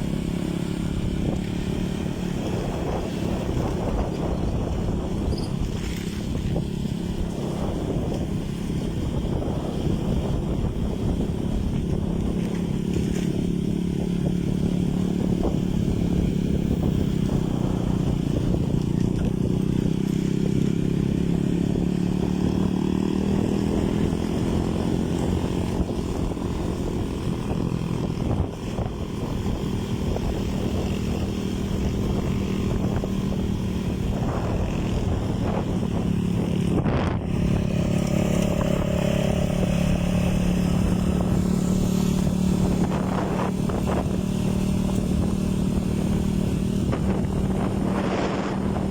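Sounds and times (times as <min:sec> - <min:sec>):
boat motor running: 0:00.0 - 0:48.9.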